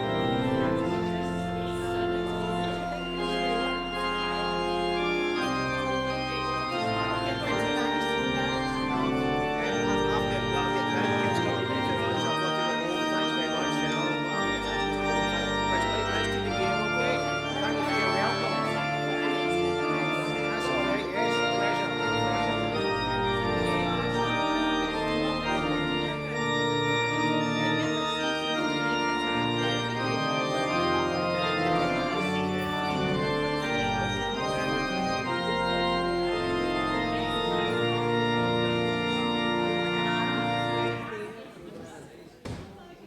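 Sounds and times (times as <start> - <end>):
church organ playing: 0.0 - 41.6.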